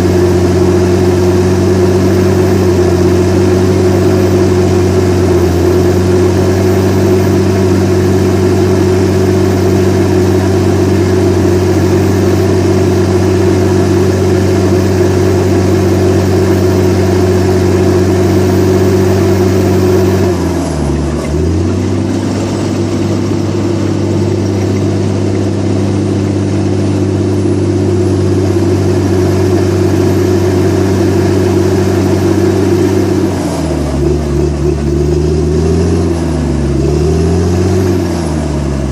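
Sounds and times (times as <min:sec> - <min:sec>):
bulldozer diesel engine revving: 0:00.0 - 0:38.9.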